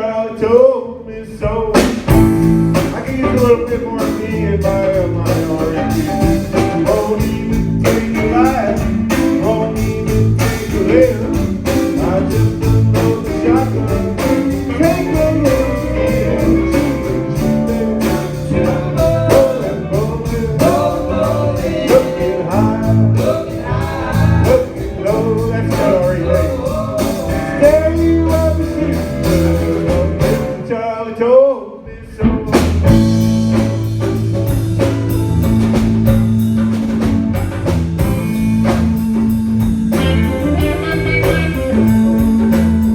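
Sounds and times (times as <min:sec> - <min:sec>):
person singing: 0:00.0 - 0:33.0, 0:39.9 - 0:42.9
drums: 0:01.3 - 0:30.7, 0:31.8 - 0:42.9
bass guitar: 0:01.4 - 0:30.7, 0:31.9 - 0:42.9
electric guitar: 0:01.8 - 0:30.8, 0:32.2 - 0:42.9.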